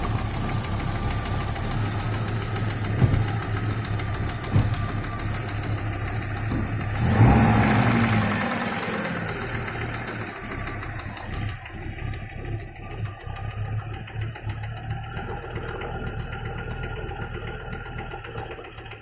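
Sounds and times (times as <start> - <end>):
car engine idling: 0.0 - 19.0
rhythmic engine knock: 0.0 - 19.0.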